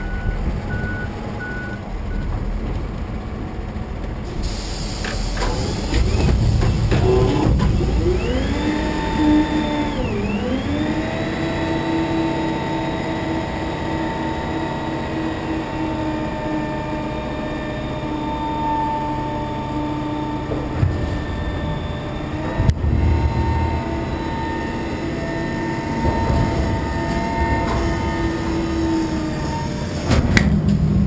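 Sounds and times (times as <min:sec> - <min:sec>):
truck engine running: 0:00.0 - 0:31.0
hydraulic whine: 0:04.2 - 0:31.0.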